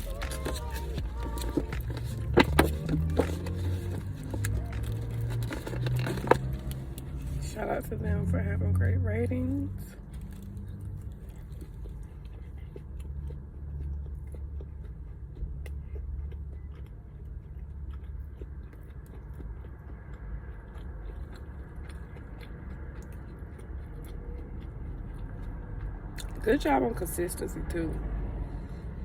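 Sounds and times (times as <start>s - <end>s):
chewing and biting food: 0.0s - 27.1s
low rumble inside a car: 0.0s - 29.0s.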